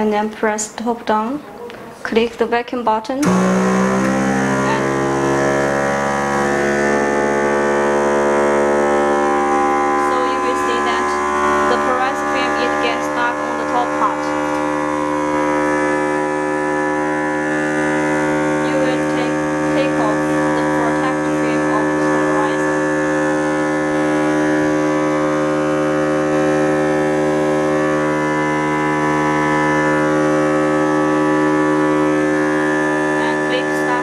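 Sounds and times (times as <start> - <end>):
vacuum pump humming: 3.2 - 34.0.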